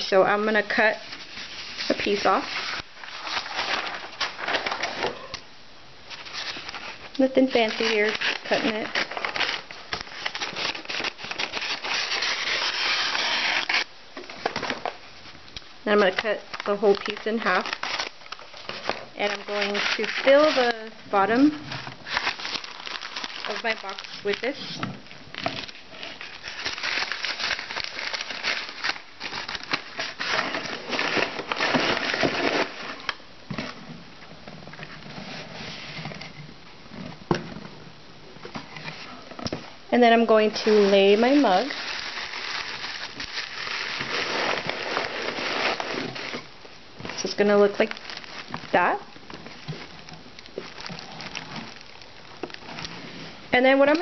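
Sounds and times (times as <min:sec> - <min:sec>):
paper crinkling and rustling: 0:00.7 - 0:05.4, 0:06.1 - 0:15.0, 0:15.9 - 0:33.7, 0:40.4 - 0:53.4.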